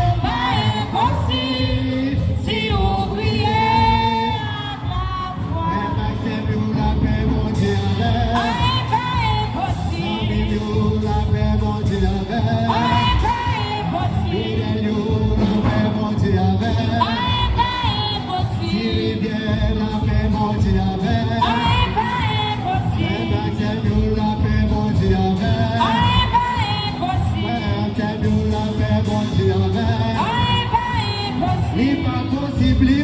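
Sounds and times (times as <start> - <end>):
band with beat and bass: 0.0 - 33.0
hymn singing: 0.0 - 33.0.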